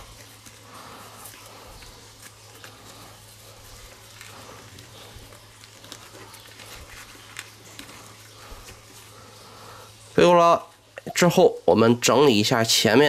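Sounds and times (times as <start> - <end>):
cloth rustling: 0.0 - 11.4.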